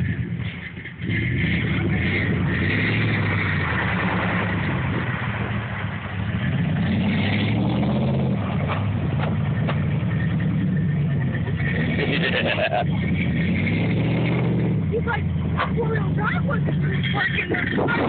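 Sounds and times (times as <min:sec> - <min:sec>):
truck engine running under load: 0:00.0 - 0:18.0.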